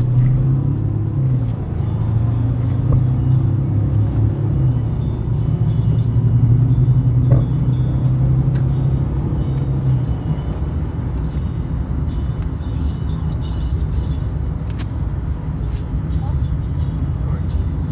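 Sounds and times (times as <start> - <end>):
diesel engine droning: 0.0 - 17.9
tyre and road rumble: 0.0 - 17.9
wind rumble: 0.0 - 17.9.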